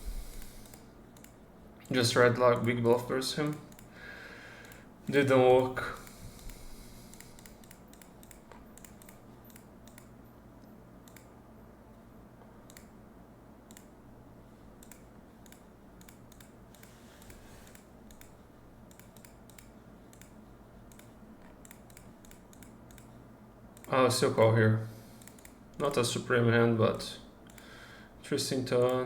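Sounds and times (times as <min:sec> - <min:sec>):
low steady hum: 0:00.0 - 0:29.0
faint computer clicking: 0:00.1 - 0:03.9, 0:04.6 - 0:13.0, 0:13.7 - 0:14.0, 0:14.8 - 0:24.3, 0:25.2 - 0:26.0, 0:27.4 - 0:27.7, 0:28.7 - 0:29.0.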